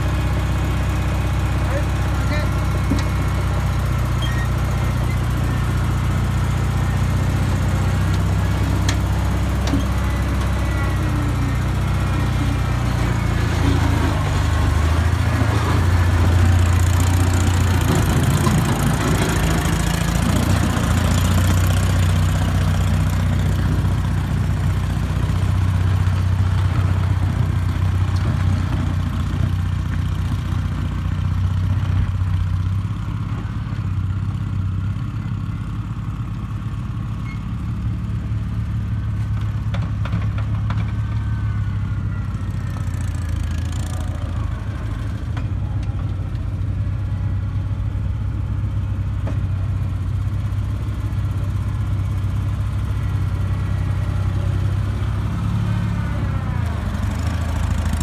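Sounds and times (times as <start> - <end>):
skid-steer loader engine running: 0.0 - 58.0.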